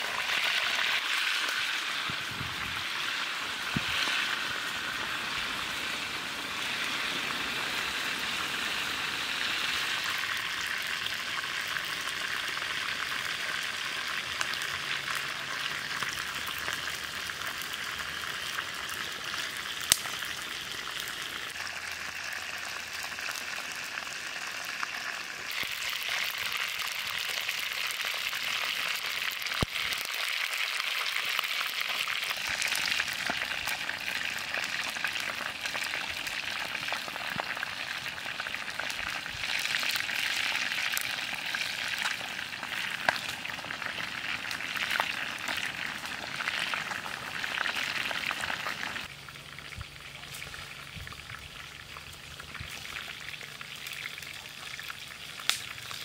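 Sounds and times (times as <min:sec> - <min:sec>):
sizzling with crackles and pops: 0:00.0 - 0:56.0.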